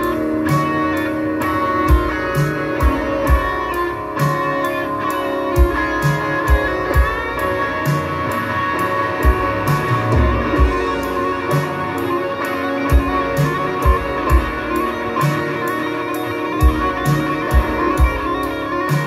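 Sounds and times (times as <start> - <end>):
drum kit: 0.0 - 19.0
electric guitars: 0.0 - 19.0.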